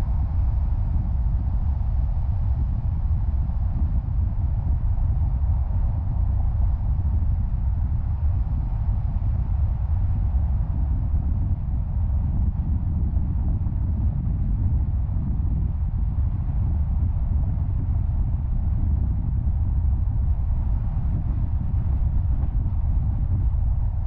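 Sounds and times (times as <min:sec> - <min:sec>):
car road noise rumble: 0:00.0 - 0:24.0.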